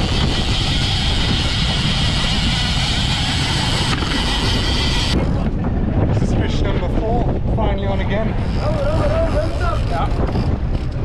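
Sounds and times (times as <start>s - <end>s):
boat engine rumble: 0.0s - 11.0s
wind and water rushing: 0.0s - 11.0s.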